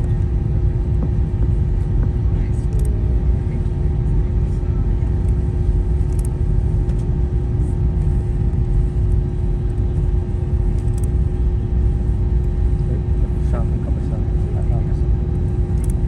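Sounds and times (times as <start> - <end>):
airplane cabin rumble: 0.0 - 16.0
steady cabin hum: 0.0 - 16.0.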